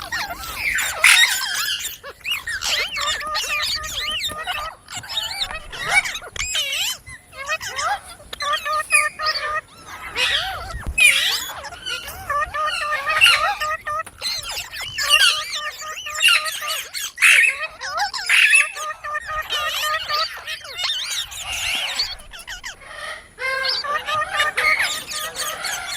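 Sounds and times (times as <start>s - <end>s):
parrot squawking and babbling: 0.0s - 25.9s.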